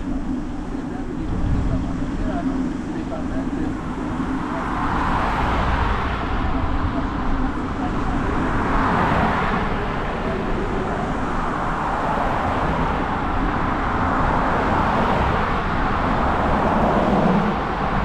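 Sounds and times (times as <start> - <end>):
bicycle road noise hiss: 0.0 - 18.0
low uneven traffic rumble: 0.0 - 18.0.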